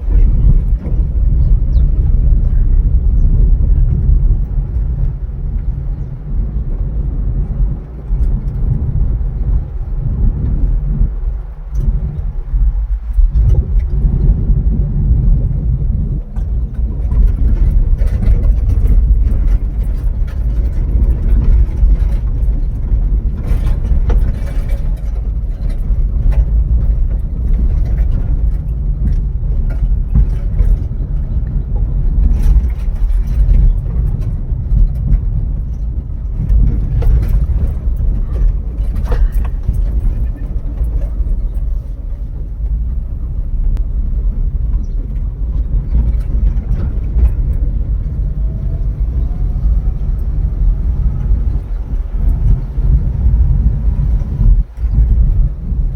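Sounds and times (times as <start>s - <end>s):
car rumbling: 0.0s - 55.9s
knocks and rattles: 7.4s - 55.9s.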